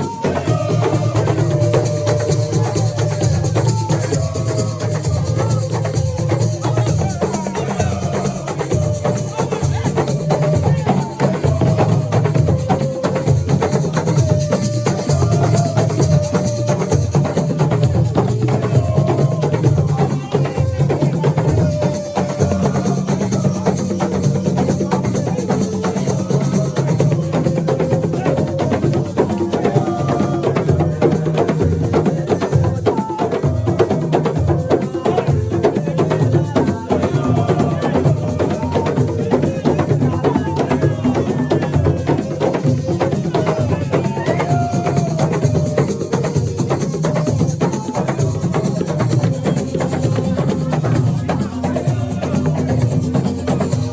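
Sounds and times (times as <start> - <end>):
drums and percussion rhythm: 0.0 - 53.9
voices singing: 0.0 - 53.9.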